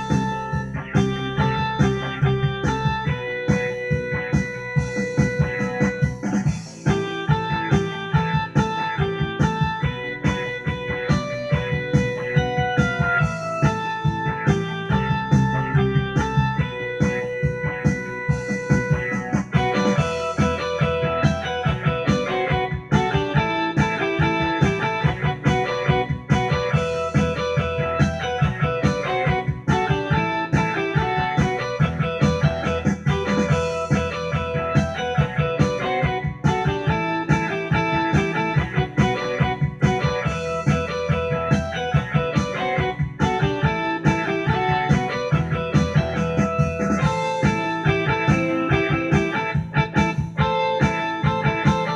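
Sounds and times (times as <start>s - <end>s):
electronic keyboard blues-rock tune: 0.0s - 51.9s
steady beat: 0.0s - 51.9s.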